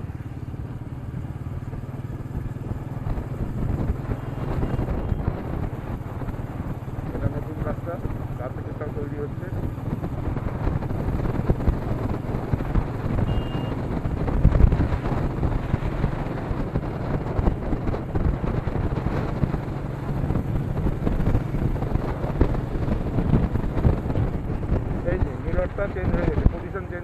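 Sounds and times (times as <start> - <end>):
motorcycle engine running: 0.0 - 27.0
wind rushing over microphone: 0.0 - 27.0.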